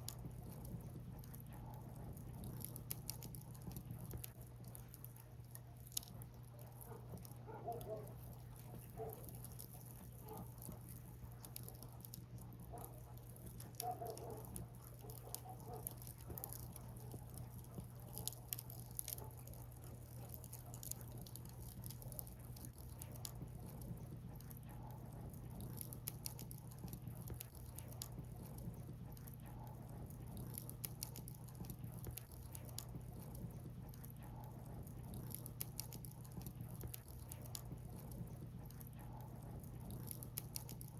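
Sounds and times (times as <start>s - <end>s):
steady low hum: 0.0s - 40.9s
wood fire crackling and popping: 0.0s - 40.9s.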